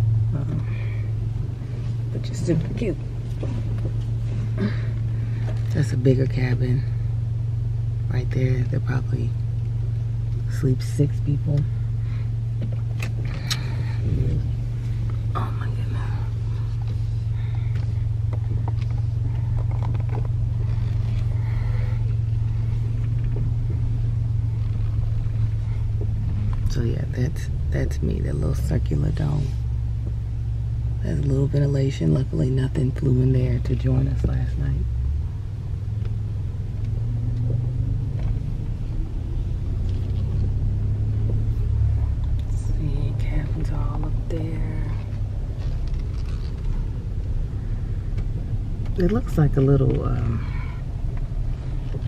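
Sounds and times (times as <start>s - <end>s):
car driving slowly inside cabin: 0.0s - 52.0s.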